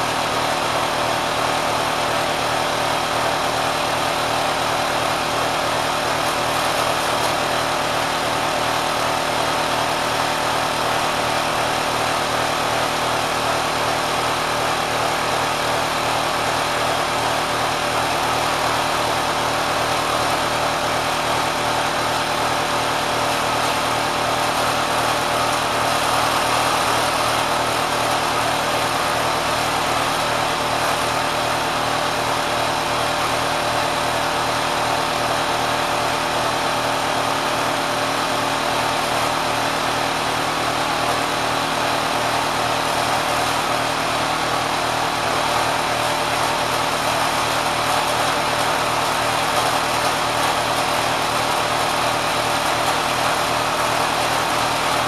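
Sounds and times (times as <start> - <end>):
sewing machine running fast: 0.0 - 55.0.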